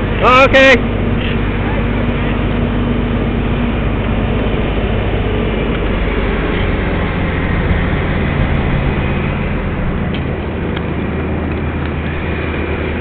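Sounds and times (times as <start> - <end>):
large engine running under load: 0.0 - 13.0.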